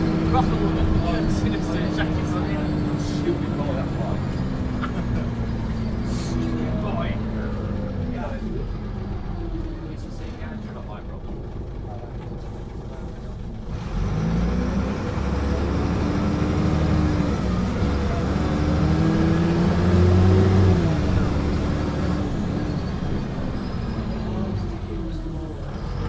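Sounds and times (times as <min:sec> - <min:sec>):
bus diesel engine accelerating: 0:00.0 - 0:26.0.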